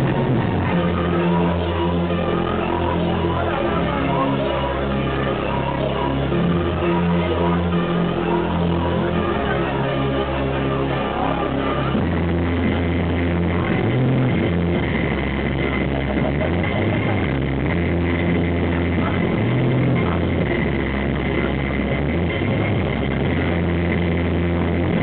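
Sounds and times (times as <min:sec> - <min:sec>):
electronic dance music with heavy bass: 0:00.0 - 0:25.0.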